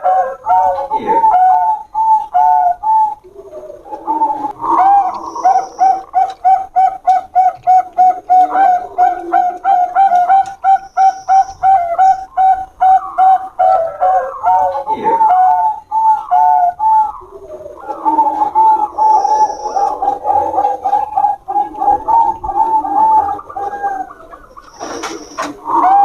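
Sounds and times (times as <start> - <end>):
doves cooing: 0.0 - 26.0.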